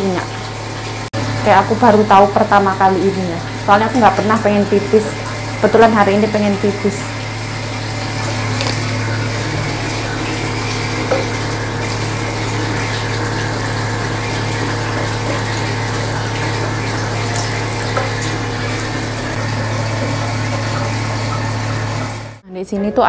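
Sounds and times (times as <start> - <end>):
tap water running into basin: 0.0 - 22.4.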